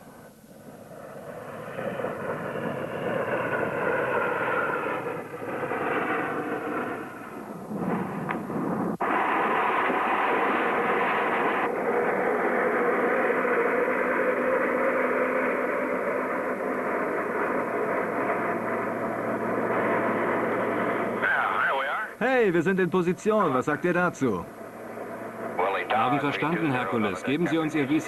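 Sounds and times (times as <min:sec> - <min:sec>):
faint steady whine: 0:00.0 - 0:28.0
turboprop engine and propeller noise: 0:00.0 - 0:28.0.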